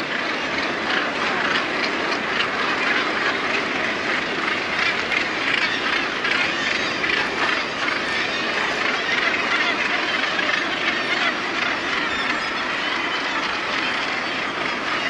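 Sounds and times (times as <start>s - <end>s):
seabird colony calling: 0.0s - 15.0s.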